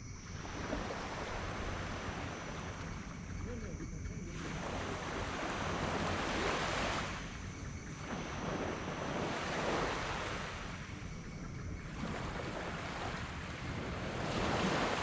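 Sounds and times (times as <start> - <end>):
waves breaking on a beach: 0.0 - 15.0.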